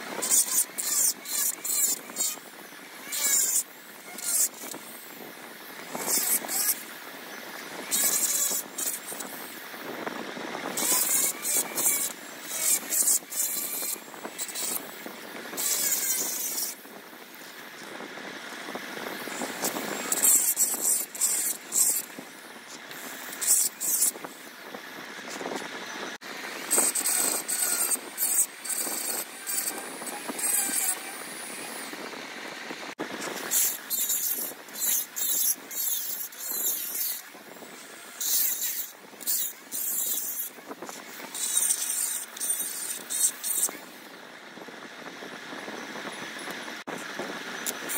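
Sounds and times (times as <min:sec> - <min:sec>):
rotary tool grinding whine: 0:00.0 - 0:47.9.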